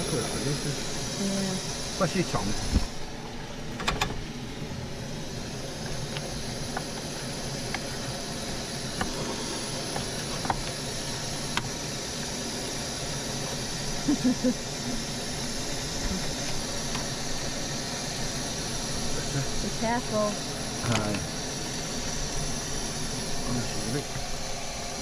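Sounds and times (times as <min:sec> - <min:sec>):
gas burner hissing: 0:00.0 - 0:25.0.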